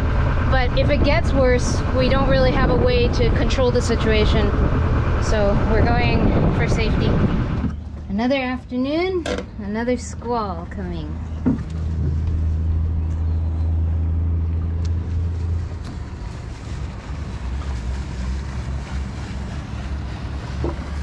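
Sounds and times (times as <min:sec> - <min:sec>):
wind noise on microphone: 0:00.0 - 0:09.0, 0:11.1 - 0:21.0
boat engine droning: 0:00.0 - 0:21.0.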